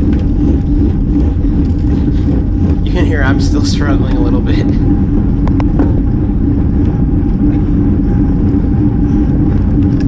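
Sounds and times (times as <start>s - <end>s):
steady hum: 0.0s - 10.0s
wind rushing over microphone: 0.0s - 10.0s.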